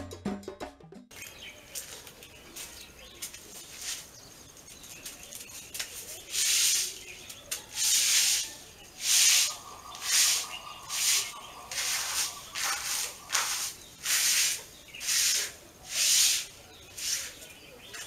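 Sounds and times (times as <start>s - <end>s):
broom sweeping tiled floor: 1.7s - 18.0s.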